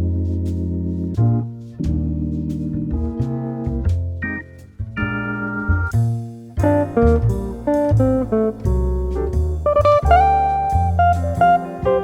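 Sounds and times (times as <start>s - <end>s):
bass line: 0.0s - 12.0s
plucked jazz guitar melody: 0.0s - 12.0s.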